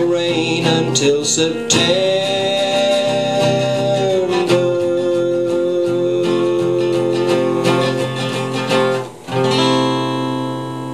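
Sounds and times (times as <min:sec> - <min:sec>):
acoustic guitar strumming: 0:00.0 - 0:10.9.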